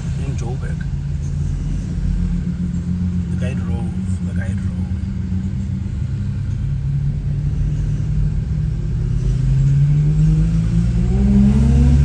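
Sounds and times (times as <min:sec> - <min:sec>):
car engine running: 0:00.0 - 0:12.0
low road rumble: 0:00.0 - 0:12.0.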